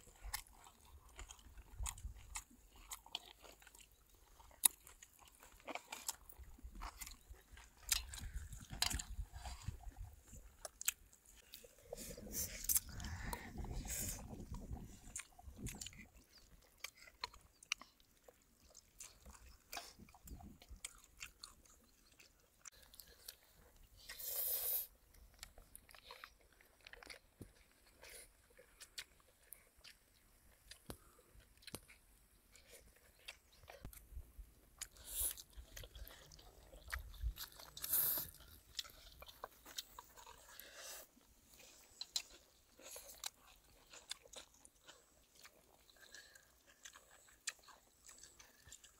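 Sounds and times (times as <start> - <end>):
person chewing food: 0.0 - 48.9.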